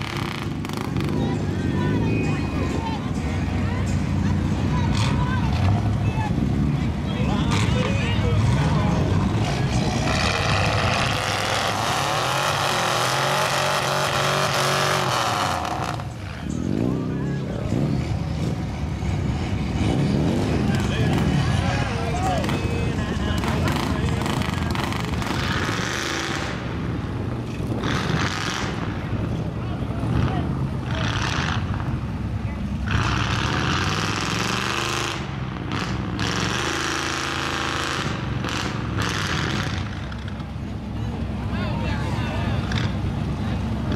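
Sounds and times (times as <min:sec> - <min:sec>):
truck engine at high revs: 0:00.0 - 0:43.9.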